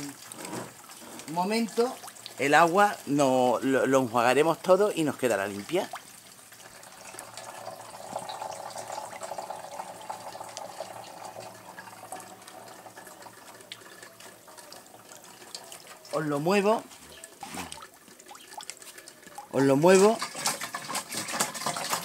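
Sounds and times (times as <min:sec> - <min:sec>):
water trickling into plastic can: 0:00.0 - 0:22.0.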